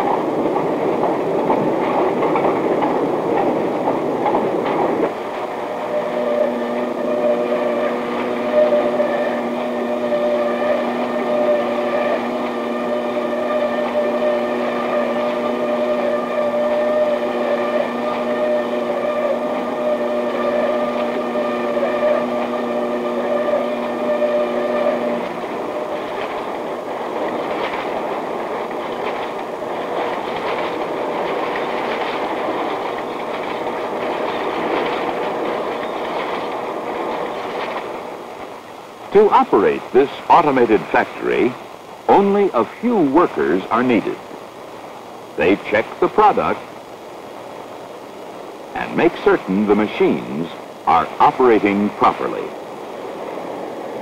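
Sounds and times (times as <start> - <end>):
machine hum with steady tones: 0.0 - 54.0.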